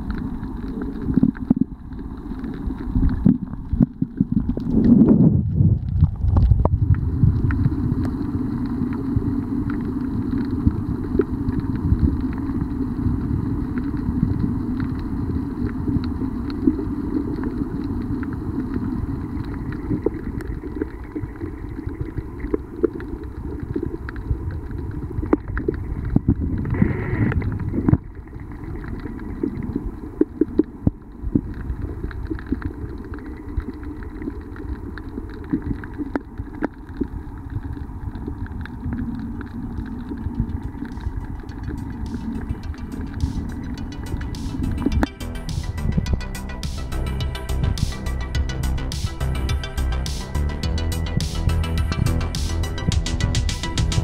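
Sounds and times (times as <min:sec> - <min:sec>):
muffled underwater rumble: 0:00.0 - 0:54.0.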